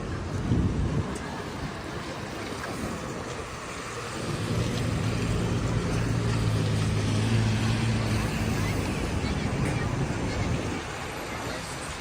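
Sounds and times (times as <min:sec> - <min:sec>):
street noise hiss: 0:00.0 - 0:12.0.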